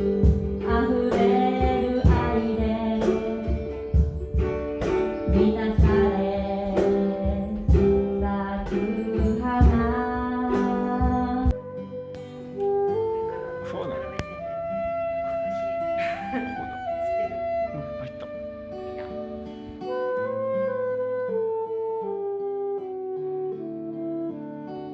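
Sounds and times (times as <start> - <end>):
music with steady beat: 0.0 - 20.0.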